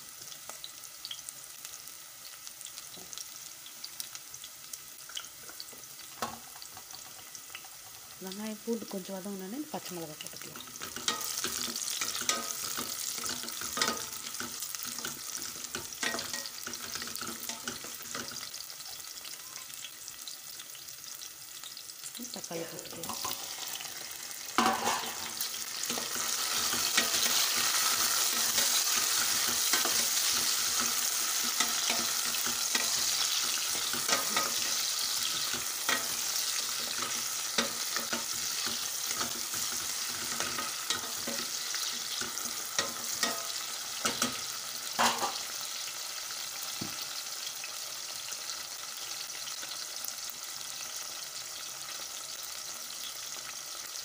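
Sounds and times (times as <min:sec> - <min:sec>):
tomatoes sizzling in hot oil: 0:00.0 - 0:54.0.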